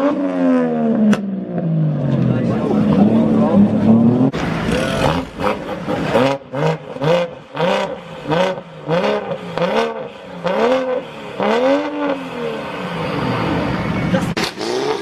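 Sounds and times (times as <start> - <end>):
car engine revving: 0.4 - 15.0.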